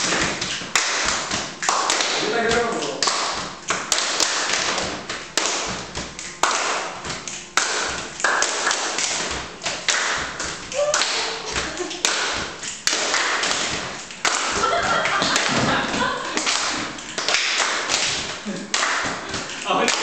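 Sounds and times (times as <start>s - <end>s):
people clapping: 0.0s - 20.0s.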